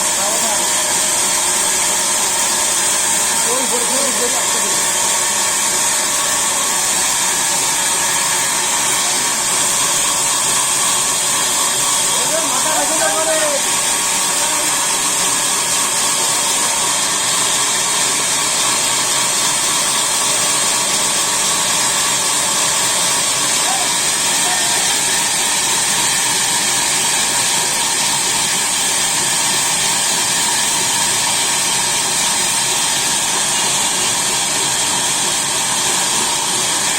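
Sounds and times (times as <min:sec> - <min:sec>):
sawmill machinery whirring: 0:00.0 - 0:36.9.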